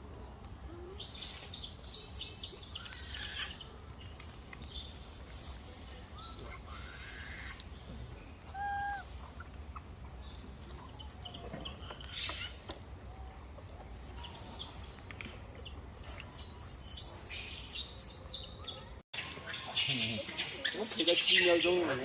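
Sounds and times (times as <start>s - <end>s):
animal calls and chirps: 0.7s - 15.0s, 15.6s - 22.0s.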